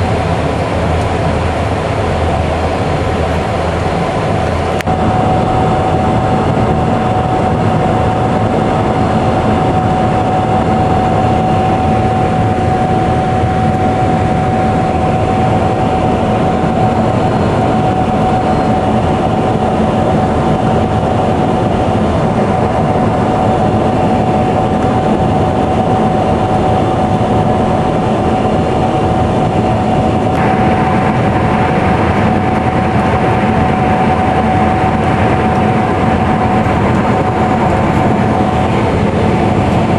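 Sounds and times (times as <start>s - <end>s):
combine harvester running: 0.0s - 39.9s
high machinery whine: 0.0s - 39.9s.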